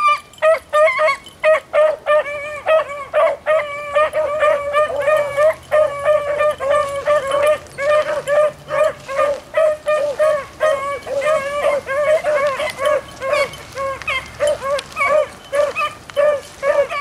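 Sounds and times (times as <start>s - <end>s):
hounds barking: 0.0s - 17.0s.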